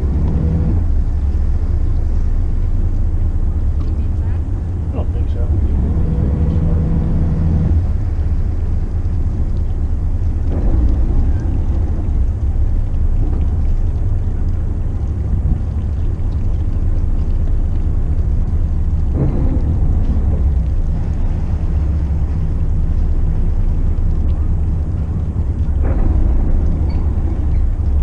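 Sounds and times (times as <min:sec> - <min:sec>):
boat engines rumbling: 0:00.0 - 0:28.0.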